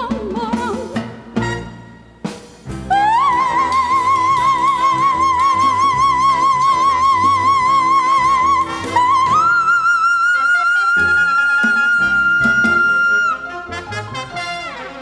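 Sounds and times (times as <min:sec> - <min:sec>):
latin dance band: 0:00.0 - 0:15.0.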